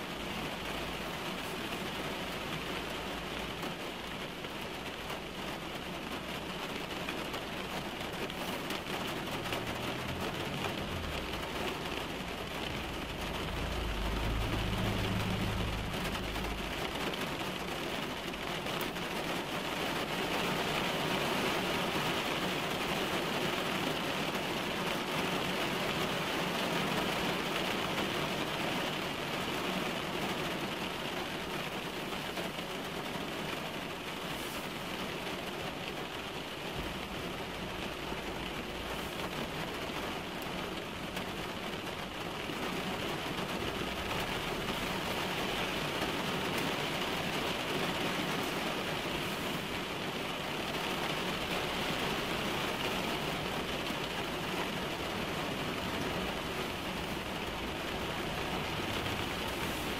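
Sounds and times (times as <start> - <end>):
rain on a car roof: 0.0 - 59.9.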